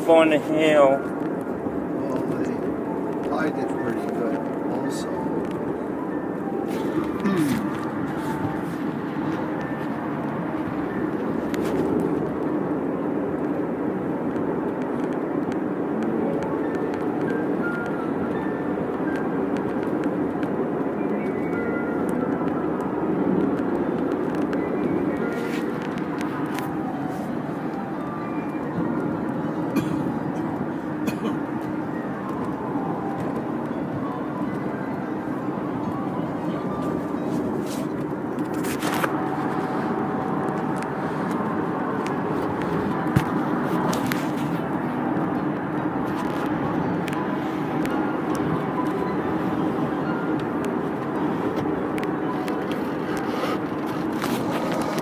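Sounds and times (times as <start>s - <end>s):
car cabin road and engine noise: 0.0s - 55.0s.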